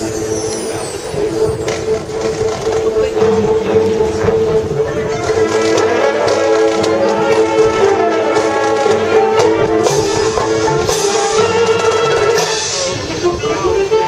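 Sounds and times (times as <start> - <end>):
sharp percussion hits: 0.0 - 13.2
brass sustained chords: 0.0 - 14.0
marching band playing: 0.0 - 14.0.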